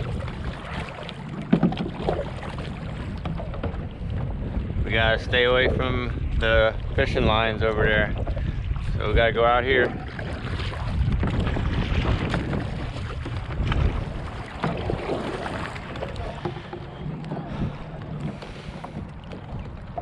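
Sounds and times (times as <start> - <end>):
paddle splashing in water: 0.0 - 4.8, 8.0 - 20.0
wind rumble on microphone: 0.0 - 20.0.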